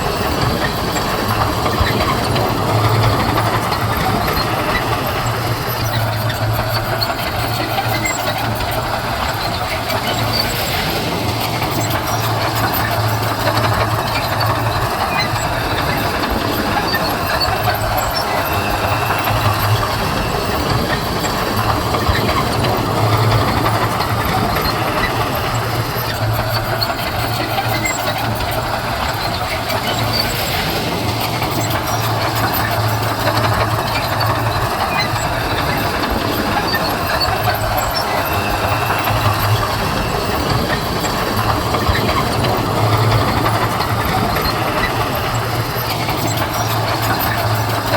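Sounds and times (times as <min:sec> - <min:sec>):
diesel engine rumbling: 0:00.0 - 0:47.9.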